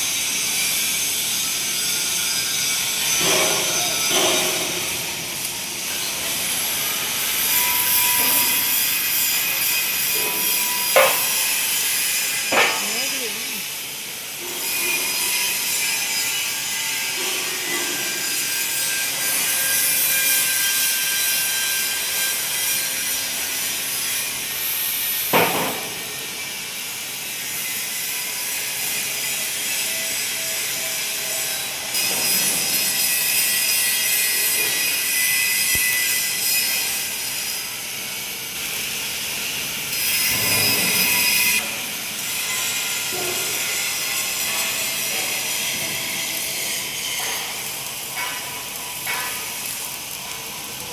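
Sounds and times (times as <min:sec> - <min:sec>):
welding arc crackling and hissing: 0:00.0 - 0:50.9.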